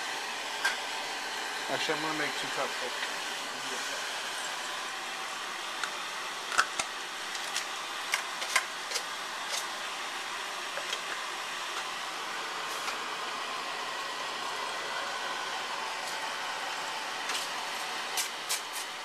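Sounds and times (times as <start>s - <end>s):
steady fan-like hiss: 0.0s - 19.0s.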